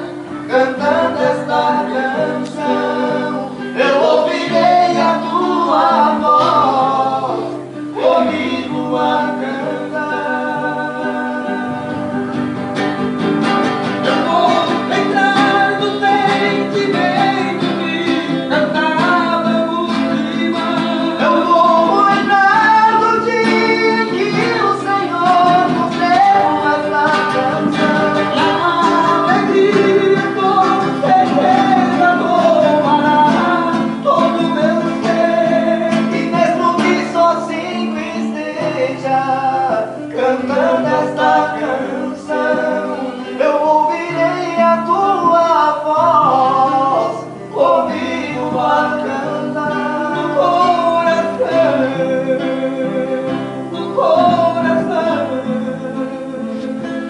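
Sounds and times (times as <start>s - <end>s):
guitar accompaniment: 0.0s - 57.0s
vocal duo singing: 0.0s - 57.0s.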